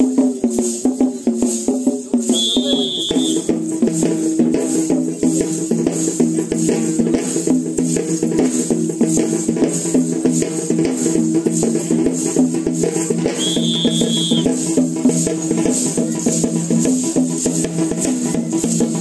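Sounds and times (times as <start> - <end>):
metallic cymbal jingling: 0.0 - 19.0.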